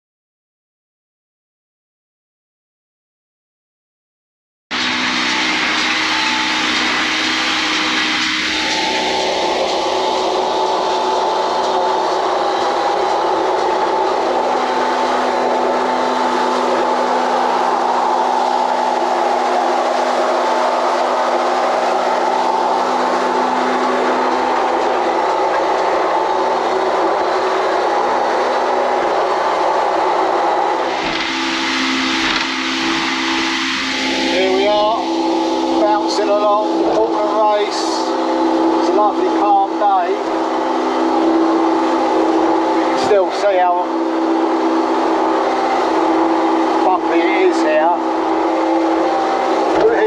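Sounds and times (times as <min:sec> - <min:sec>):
boat engine running: 0:04.7 - 0:50.0.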